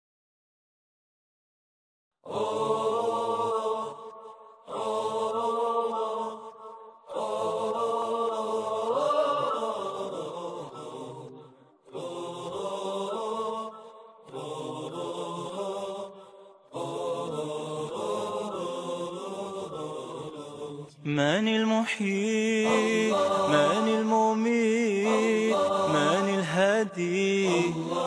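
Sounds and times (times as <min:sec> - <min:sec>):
layered voices singing chords: 0:02.2 - 0:28.0.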